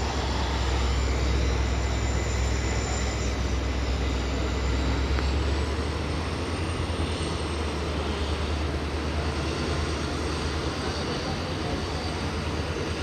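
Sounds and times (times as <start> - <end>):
high-pitched whine: 0.0 - 13.0
train wheels rumbling on rail: 0.0 - 13.0.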